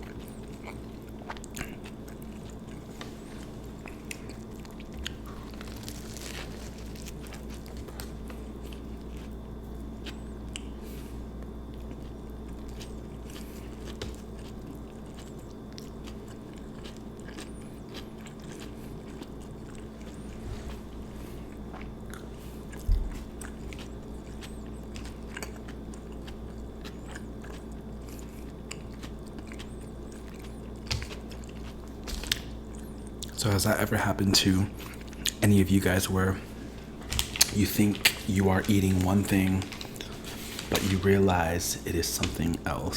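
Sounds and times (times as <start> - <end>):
biting and chewing sandwich: 0.0 - 33.6, 34.2 - 42.9
low hum: 0.0 - 42.9.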